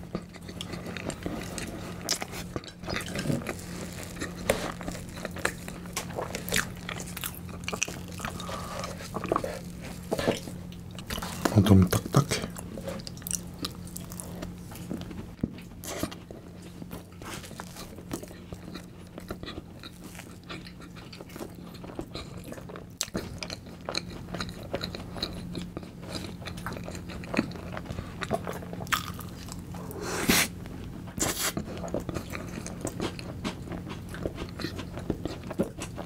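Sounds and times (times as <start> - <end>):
chewing and crunching cake: 0.0 - 36.0.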